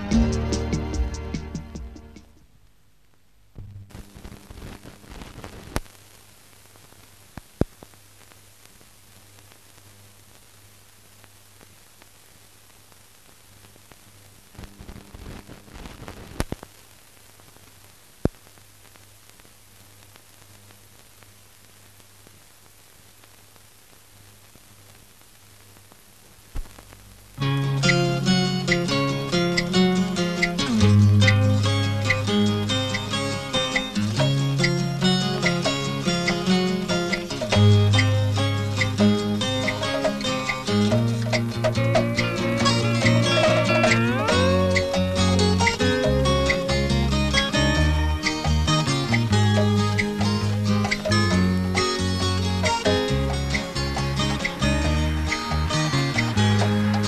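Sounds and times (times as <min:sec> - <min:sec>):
film soundtrack hiss: 0:00.0 - 0:57.0
crackle and pops: 0:02.2 - 0:57.0.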